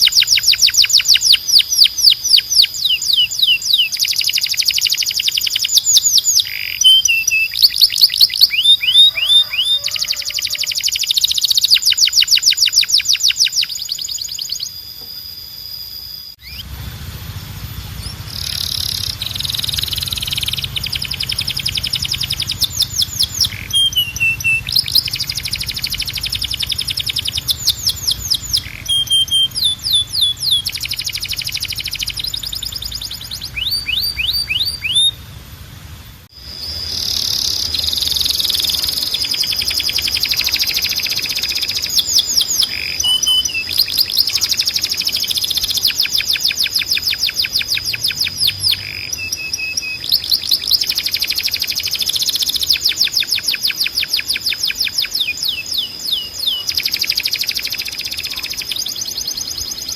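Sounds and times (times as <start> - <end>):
canary singing: 0.0 - 35.6, 36.3 - 59.9.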